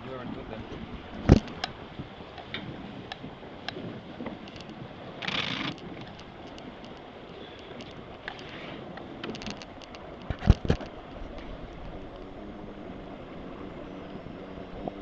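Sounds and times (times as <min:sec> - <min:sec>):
water wash: 0:00.0 - 0:15.0
wind: 0:00.0 - 0:15.0.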